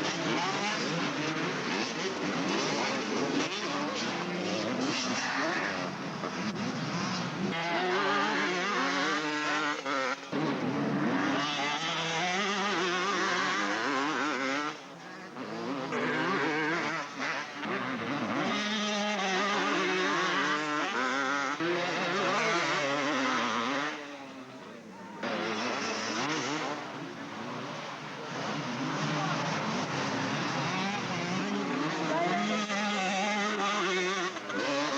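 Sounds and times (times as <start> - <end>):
motocross motorcycles revving: 0.0 - 34.9.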